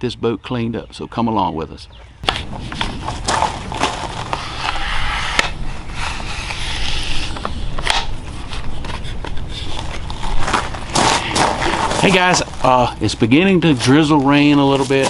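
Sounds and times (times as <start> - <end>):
steady low rumble: 1.8 - 15.0
brush scraping and rubbing on pole: 2.3 - 15.0.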